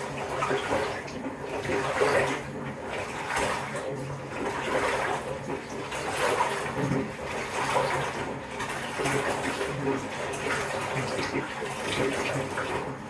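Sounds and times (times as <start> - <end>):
tap water running into bathtub: 0.0 - 13.0.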